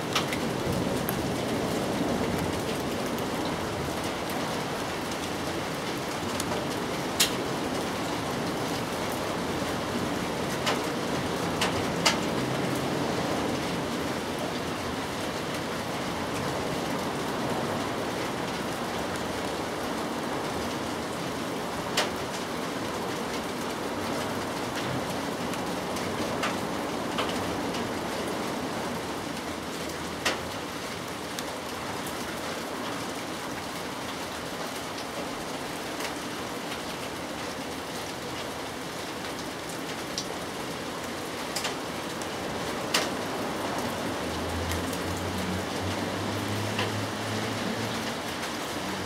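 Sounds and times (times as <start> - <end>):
rain pattering: 0.0 - 49.0.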